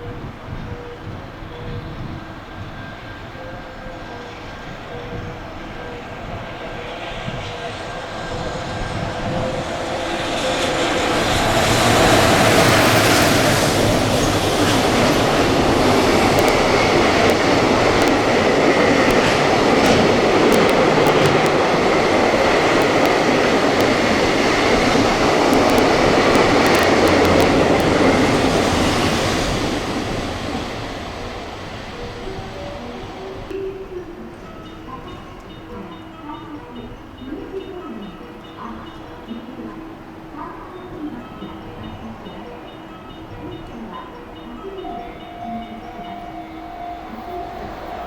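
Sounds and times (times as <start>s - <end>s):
train passing at speed: 0.0s - 48.0s.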